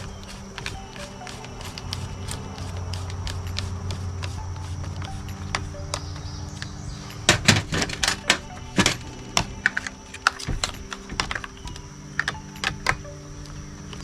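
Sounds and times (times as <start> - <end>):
background music: 0.0 - 14.0
hard parts clicking and knocking: 0.0 - 14.0.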